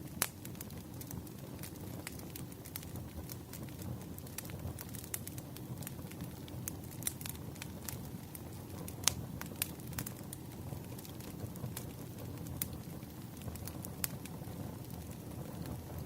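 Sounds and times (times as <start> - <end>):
burning logs popping and crackling: 0.0 - 16.0
fire low rumble: 0.0 - 16.0.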